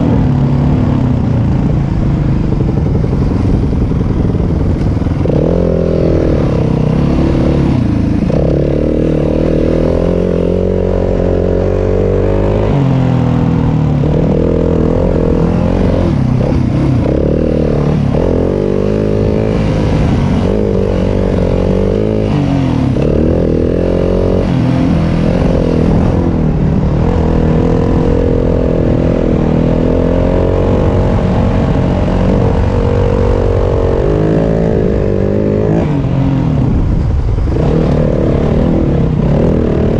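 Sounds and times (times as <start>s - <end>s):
dirt bike engine revving: 5.0s - 39.9s.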